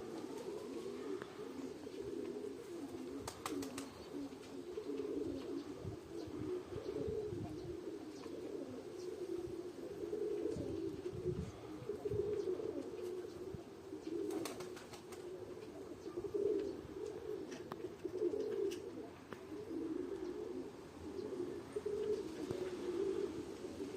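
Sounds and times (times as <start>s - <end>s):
pigeons cooing: 0.0s - 23.9s.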